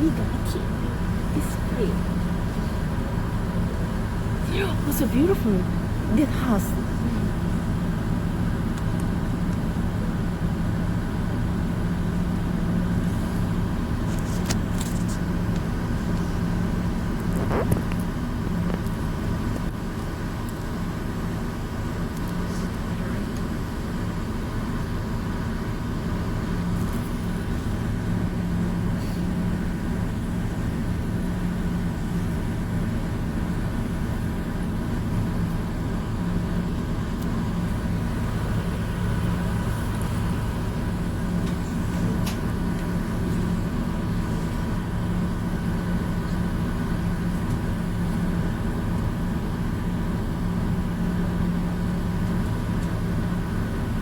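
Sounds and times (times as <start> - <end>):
ferry engine drone: 0.0 - 54.0.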